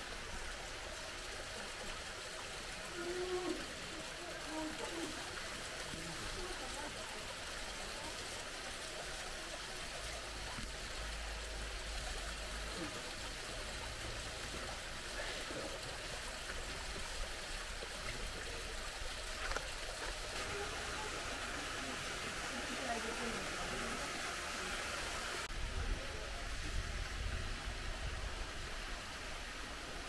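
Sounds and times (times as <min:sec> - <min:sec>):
water cascading over rocks: 0:00.0 - 0:30.0.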